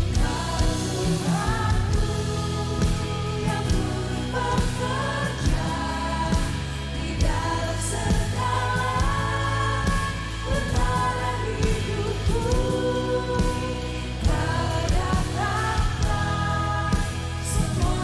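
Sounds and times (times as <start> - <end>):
drums steady beat: 0.0 - 18.0
group singing worship song: 0.0 - 18.0.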